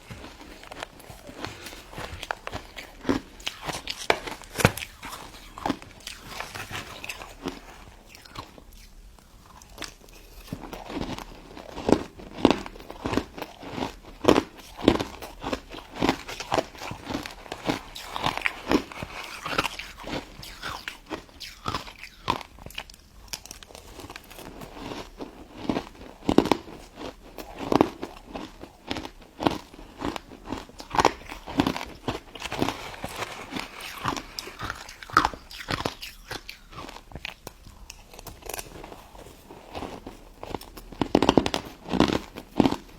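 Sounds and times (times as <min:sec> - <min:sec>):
person crunching ice dessert: 0:00.0 - 0:42.9
soft chewing: 0:00.0 - 0:42.9.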